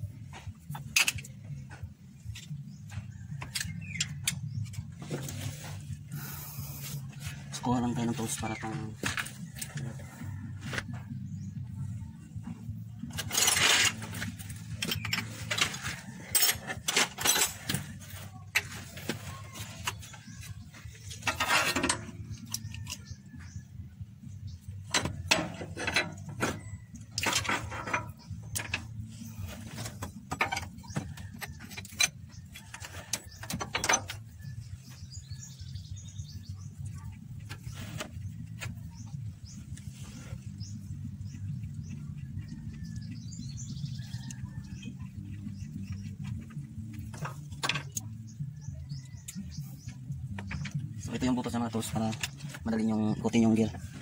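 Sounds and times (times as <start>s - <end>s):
scraping rattles: 0.2s - 23.6s, 24.6s - 54.0s.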